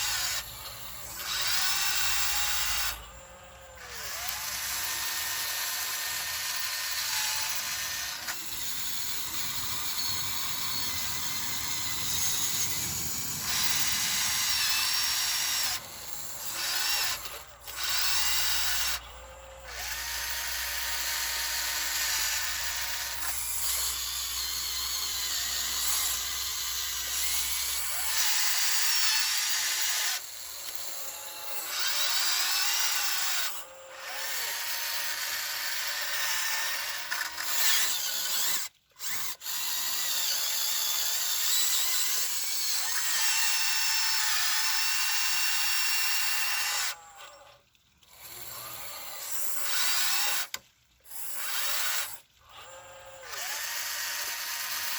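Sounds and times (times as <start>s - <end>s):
electric motors whining: 0.0s - 54.9s.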